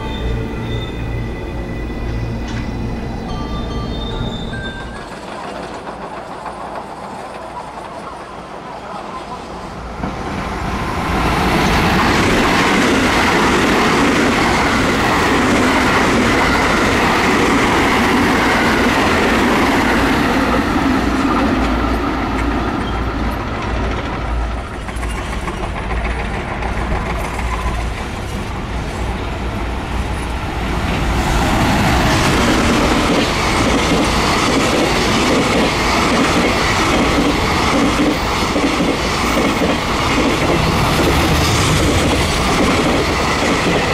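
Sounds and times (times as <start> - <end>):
electric train passing: 0.0 - 43.9
freight train rolling past: 0.0 - 43.9.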